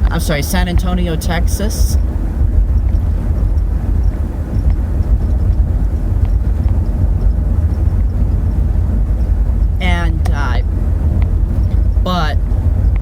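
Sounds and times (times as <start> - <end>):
car engine rumbling: 0.0 - 13.0
road noise: 0.0 - 13.0.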